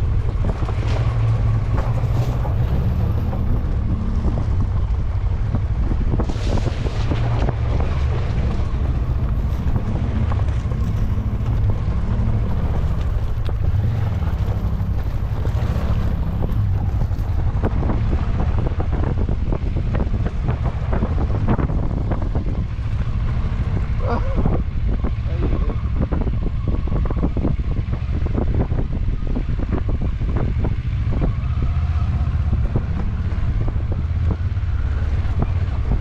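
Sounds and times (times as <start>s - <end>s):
vehicle engine running: 0.0s - 36.0s
wind rumbling on microphone: 0.0s - 36.0s.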